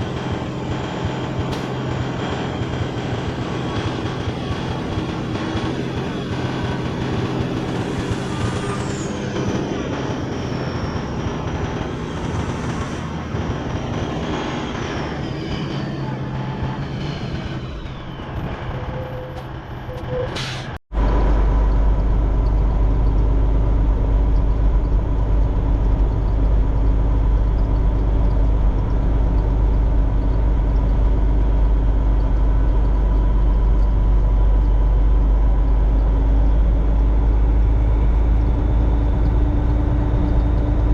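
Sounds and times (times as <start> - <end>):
deep engine drone: 0.0 - 40.9
truck engine with high whine: 0.0 - 40.9.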